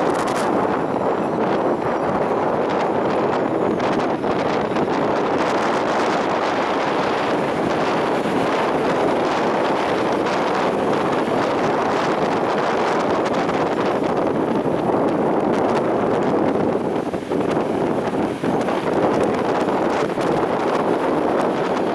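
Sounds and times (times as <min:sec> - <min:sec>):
stormy sea: 0:00.0 - 0:21.9
wind buffeting microphone: 0:00.0 - 0:21.9.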